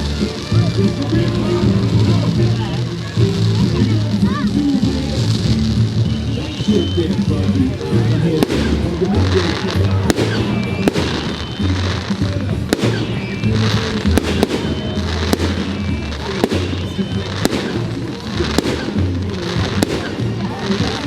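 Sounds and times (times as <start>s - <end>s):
fireworks bangs and cracks: 0.0s - 21.0s
music with low bass line: 0.0s - 21.0s.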